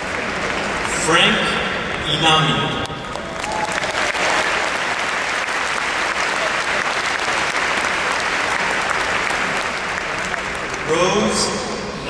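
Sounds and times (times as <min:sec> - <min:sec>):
large crowd applauding: 0:00.0 - 0:02.0, 0:02.7 - 0:11.8.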